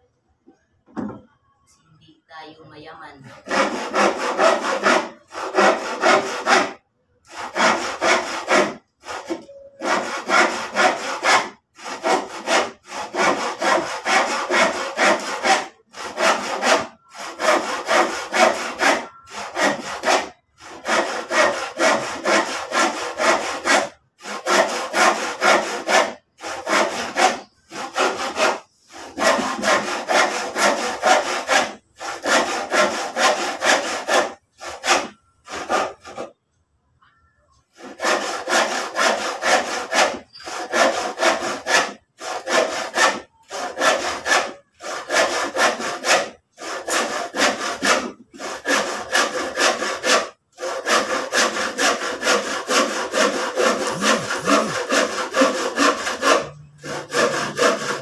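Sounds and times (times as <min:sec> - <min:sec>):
hand saw cutting wood: 0:03.2 - 0:36.3, 0:37.7 - 0:58.0.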